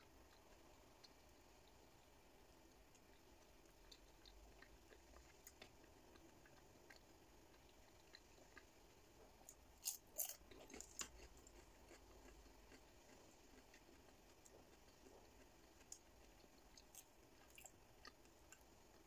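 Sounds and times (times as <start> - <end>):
person chewing: 2.7 - 19.0.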